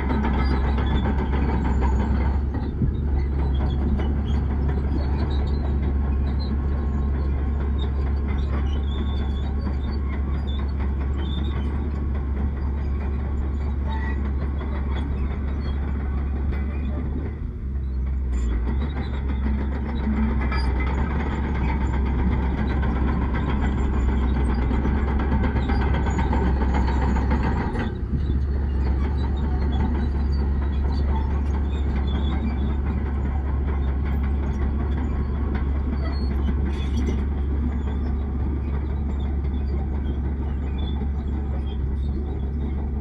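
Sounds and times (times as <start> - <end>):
bulldozer diesel engine rumbling: 0.0 - 43.0.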